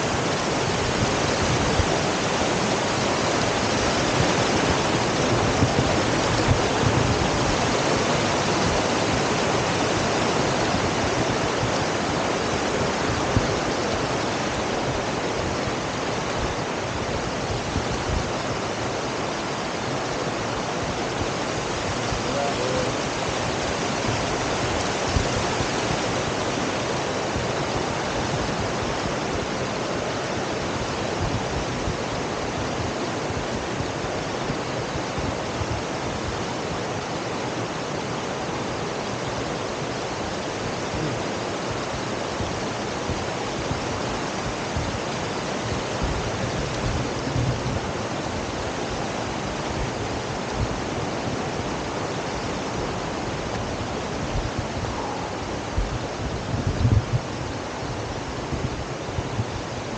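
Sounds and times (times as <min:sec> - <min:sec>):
river flowing over rapids: 0:00.0 - 0:59.9.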